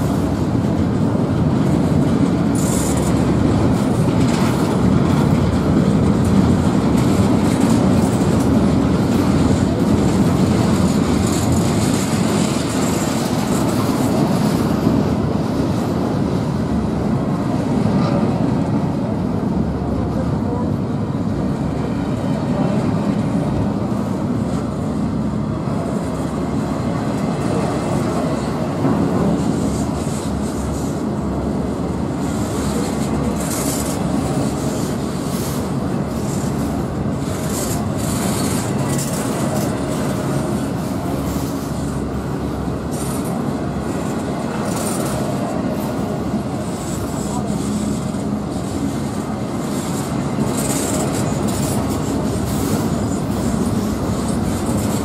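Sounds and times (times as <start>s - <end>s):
train cars rumbling on rails: 0.0s - 55.0s.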